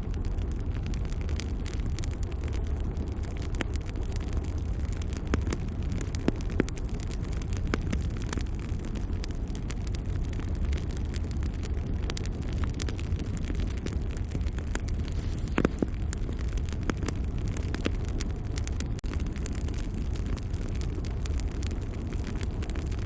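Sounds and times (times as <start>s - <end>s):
logs crackling: 0.0s - 23.0s
rush of flame: 0.0s - 23.0s
sharp pops of fire: 0.0s - 23.0s.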